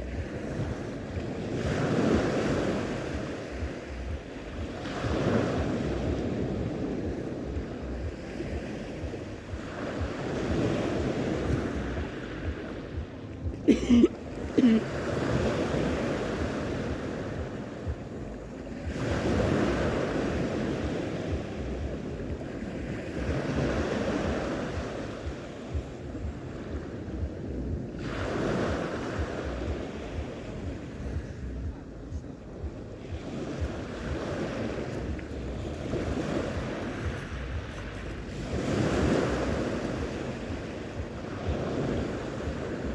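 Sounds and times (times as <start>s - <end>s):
sea waves washing onto shore: 0.0s - 42.9s
wind on the microphone: 0.0s - 42.9s.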